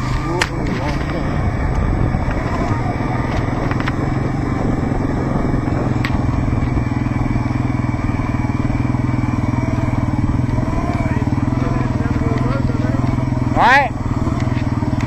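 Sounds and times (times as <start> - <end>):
off-road vehicle engine drone: 0.0 - 15.0.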